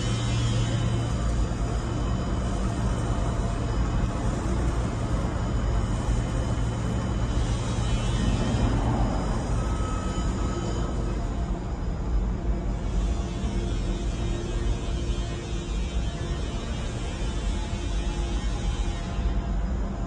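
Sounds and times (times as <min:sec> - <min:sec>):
furnace machinery humming: 0:00.0 - 0:20.0.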